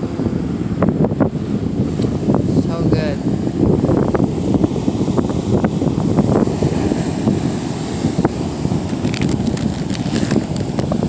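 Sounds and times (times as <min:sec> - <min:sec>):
strong wind buffeting microphone: 0:00.0 - 0:11.0
surf washing: 0:00.0 - 0:11.0.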